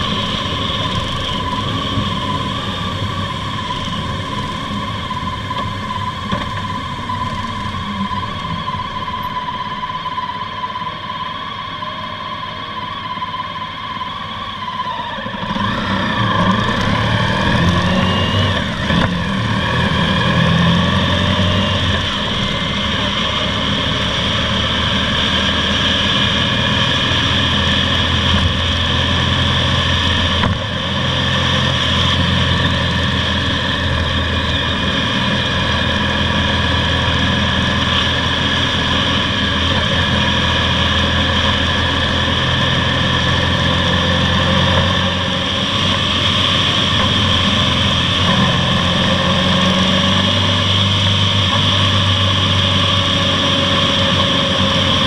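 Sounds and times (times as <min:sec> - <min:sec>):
motorcycle engine: 0:00.0 - 0:55.0
road noise: 0:00.0 - 0:55.0.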